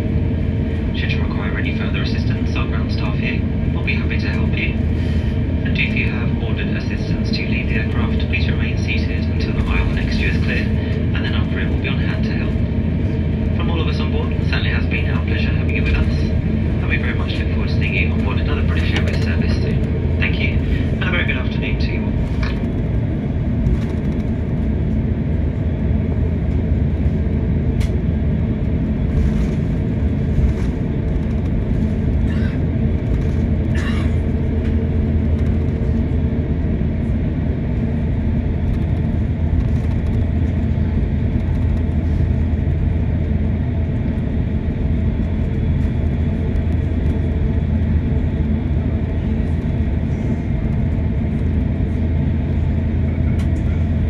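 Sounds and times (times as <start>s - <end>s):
airliner taxiing rumble: 0.0s - 54.0s.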